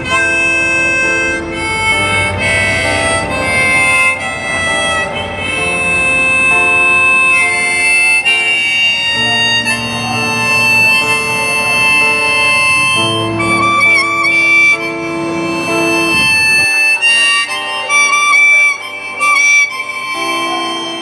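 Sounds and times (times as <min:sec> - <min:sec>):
harmonica melody: 0:00.0 - 0:21.0.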